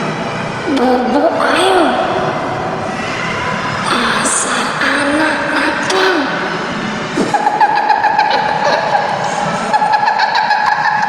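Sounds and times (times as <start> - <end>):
ghostly wailing voice: 0.0 - 11.0.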